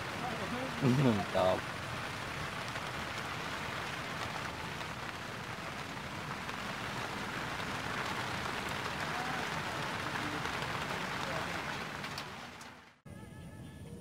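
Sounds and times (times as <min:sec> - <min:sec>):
rain falling on lake water: 0:00.0 - 0:13.0.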